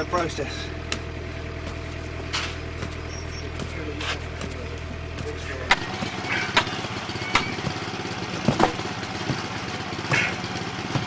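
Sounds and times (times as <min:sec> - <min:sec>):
machinery engine hum: 0:00.0 - 0:11.0
sledgehammer thuds: 0:00.8 - 0:11.0.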